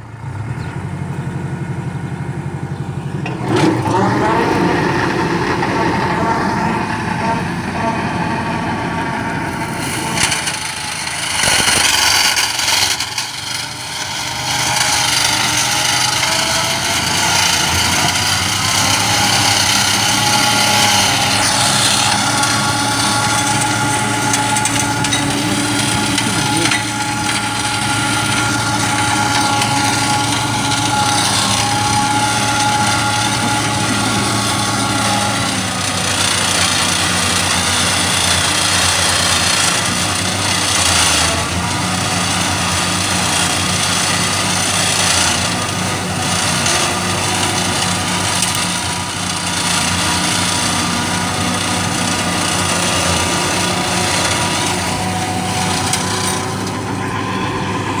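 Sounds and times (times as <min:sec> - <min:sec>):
high mechanical whine: 0:00.0 - 0:58.0
tractor engine under load: 0:00.0 - 0:58.0
flail mower shredding grass: 0:02.3 - 0:58.0.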